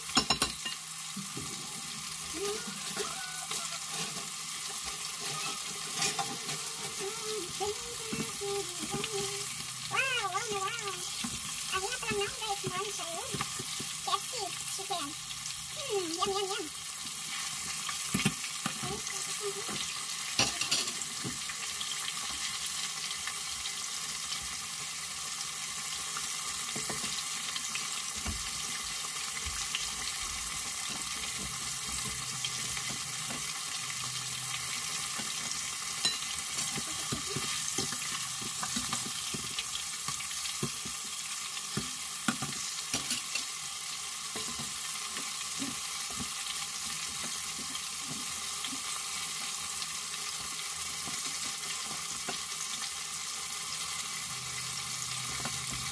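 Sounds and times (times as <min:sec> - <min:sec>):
chicken sizzling in hot oil: 0:00.0 - 0:55.9.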